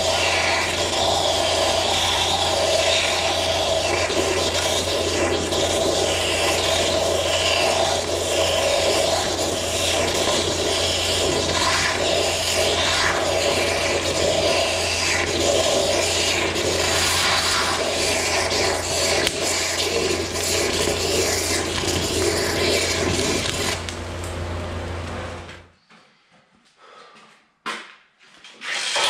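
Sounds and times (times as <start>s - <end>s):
oxygen lance hissing: 0.0s - 23.8s.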